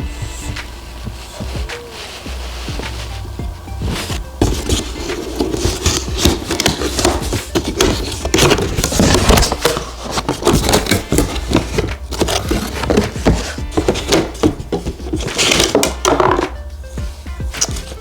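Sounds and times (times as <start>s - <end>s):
cardboard packaging rustling: 0.0s - 18.0s.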